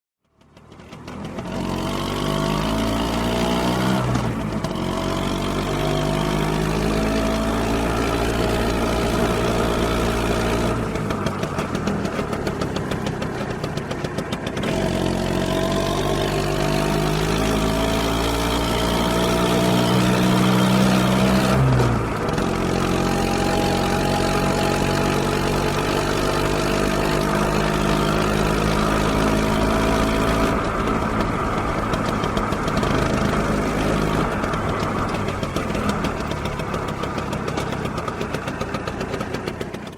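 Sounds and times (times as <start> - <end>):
scooter engine revving: 0.4 - 39.9.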